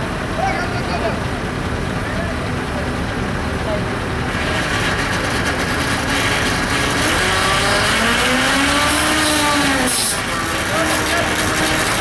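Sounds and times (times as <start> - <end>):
truck engine revving: 0.1 - 12.0.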